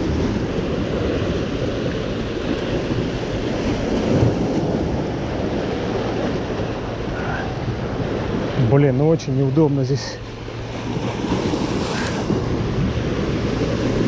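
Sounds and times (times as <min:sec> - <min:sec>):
waves breaking on boulders: 0:00.0 - 0:14.0
wind buffeting microphone: 0:00.0 - 0:14.0.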